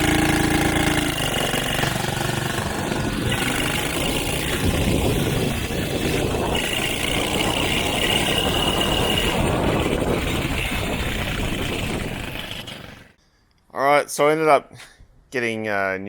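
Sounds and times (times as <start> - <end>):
small petrol engine running: 0.0 - 13.2.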